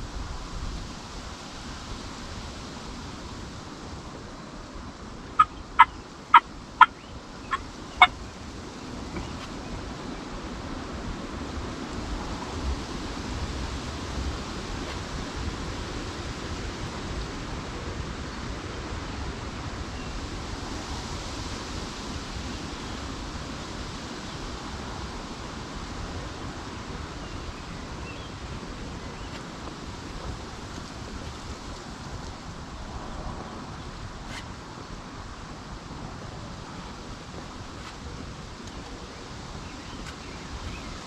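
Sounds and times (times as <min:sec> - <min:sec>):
steady wind: 0:00.0 - 0:41.0.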